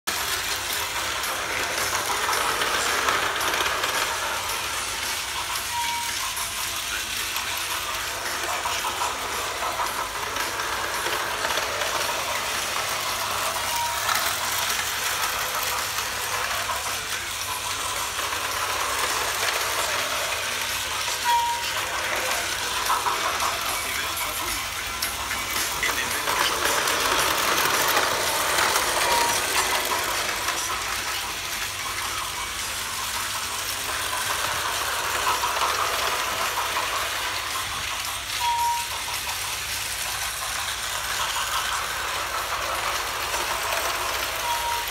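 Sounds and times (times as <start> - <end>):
toy train motor whirring: 0.0 - 44.9.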